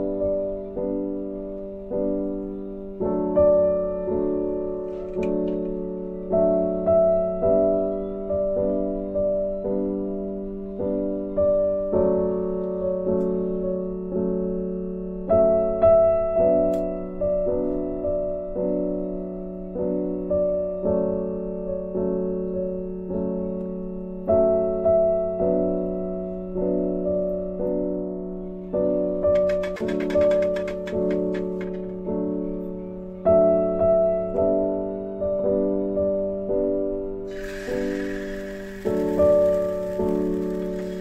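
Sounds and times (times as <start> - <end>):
gentle piano piece: 0.0 - 41.0.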